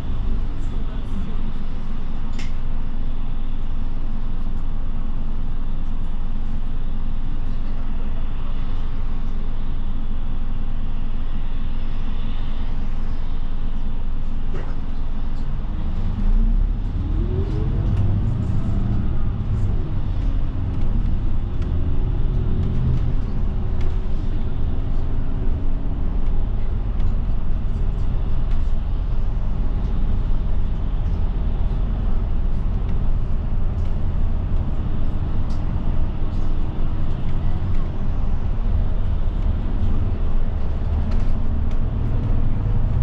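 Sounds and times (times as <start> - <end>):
bus engine and road rumble: 0.0 - 43.0
rising engine whine: 0.0 - 43.0.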